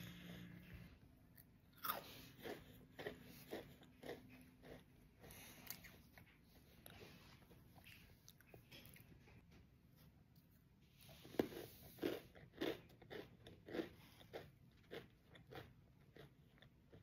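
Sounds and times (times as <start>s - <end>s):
cracker being chewed: 0.0s - 9.4s, 10.4s - 17.0s.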